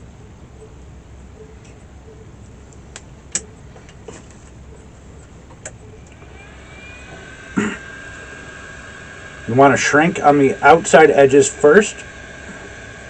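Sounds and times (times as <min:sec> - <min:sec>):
heat gun fan whine: 0:00.0 - 0:13.0.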